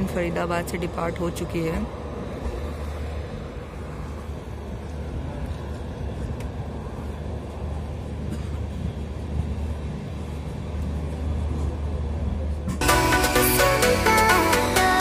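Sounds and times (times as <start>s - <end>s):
train wheels rumbling on rail: 0.0s - 13.5s.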